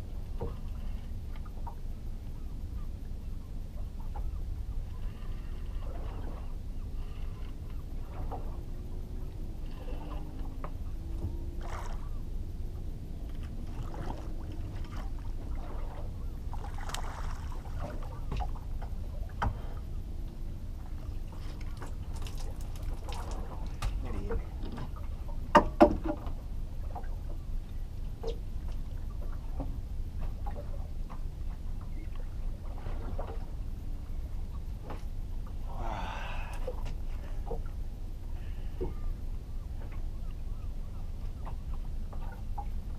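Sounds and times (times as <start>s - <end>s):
steady low rumble: 0.0s - 42.9s
water lapping against boat hull: 0.0s - 42.9s.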